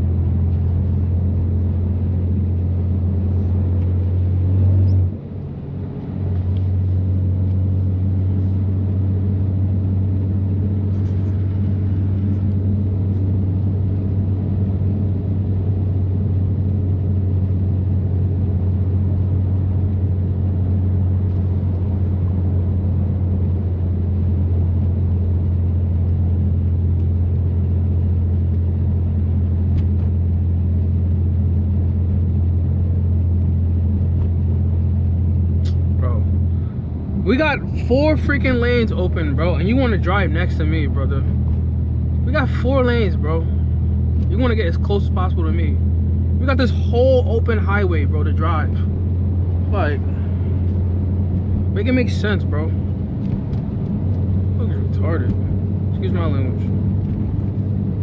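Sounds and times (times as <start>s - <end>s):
car exhaust droning at cruise: 0.0s - 58.0s.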